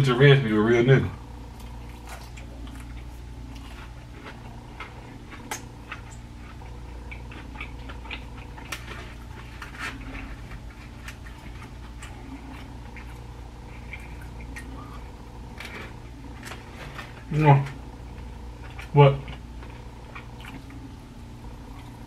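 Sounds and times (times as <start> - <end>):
steady low hum: 0.0 - 22.0
person chewing food: 1.5 - 22.0.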